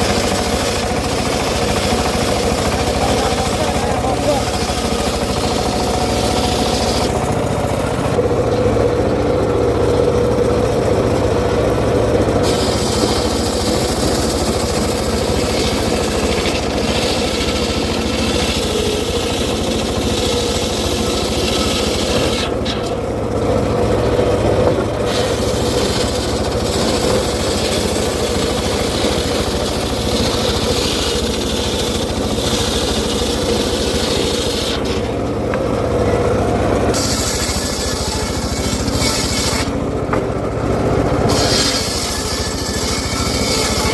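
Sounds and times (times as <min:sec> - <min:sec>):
engine-driven wood saw running: 0:00.0 - 0:43.9.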